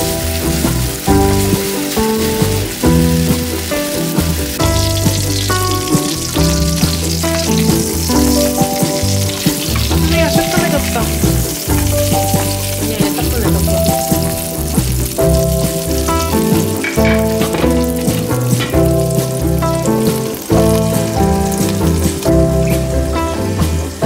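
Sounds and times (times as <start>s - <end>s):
background music: 0.0s - 24.0s
oil sizzling in a pan: 0.0s - 24.0s.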